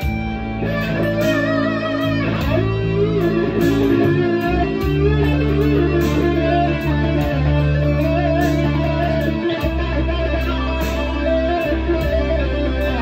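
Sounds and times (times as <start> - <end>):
electric guitar lead melody: 0.0 - 13.0
rock ballad backing track: 0.0 - 13.0.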